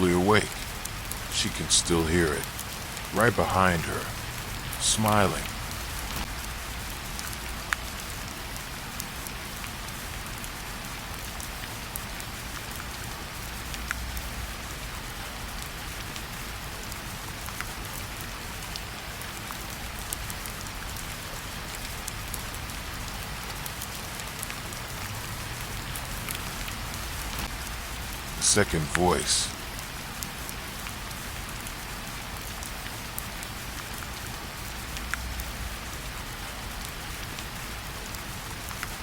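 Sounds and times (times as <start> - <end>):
raindrops ticking close by: 0.0 - 39.0
steady rainfall: 0.0 - 39.0.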